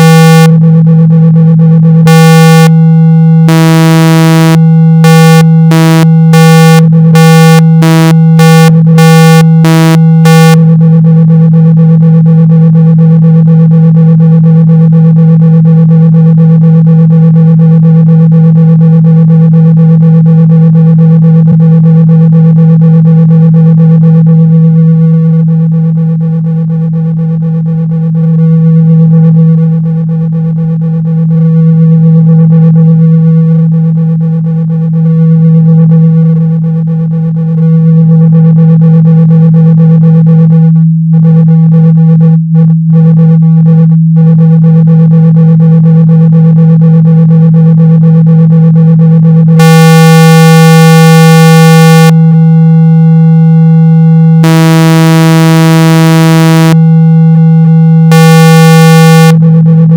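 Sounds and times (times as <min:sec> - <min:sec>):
low buzzy test tone: 0:00.0 - 0:59.9.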